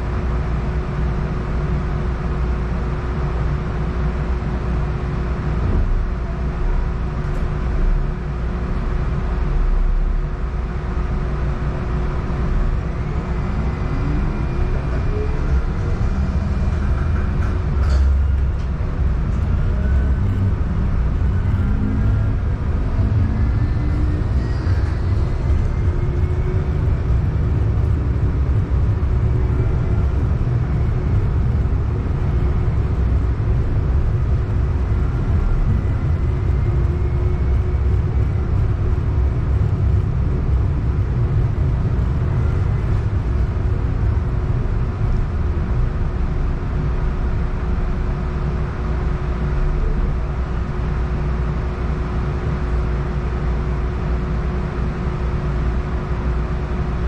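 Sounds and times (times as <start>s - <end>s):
steady hum: 0.0s - 57.0s
streetcar low rumble: 0.0s - 57.0s.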